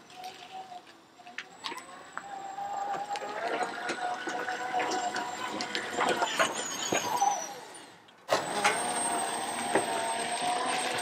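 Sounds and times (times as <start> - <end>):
electric motor whining: 1.5 - 11.0.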